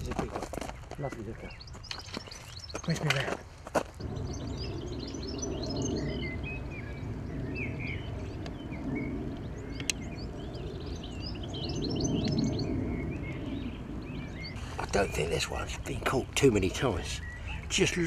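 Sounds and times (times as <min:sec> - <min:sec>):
small birds chirping: 0:00.0 - 0:18.0
low outdoor rumble: 0:03.4 - 0:18.0.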